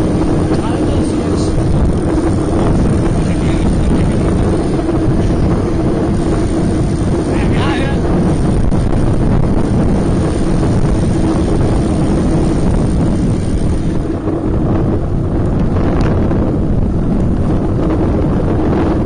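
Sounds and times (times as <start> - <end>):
wind rumbling over microphone: 0.0 - 19.0.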